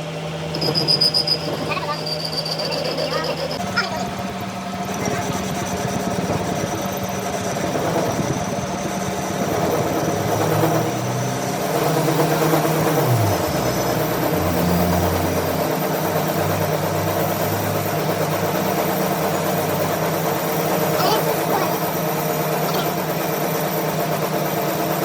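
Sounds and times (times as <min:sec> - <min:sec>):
engine running with deep hum: 0:00.0 - 0:25.0.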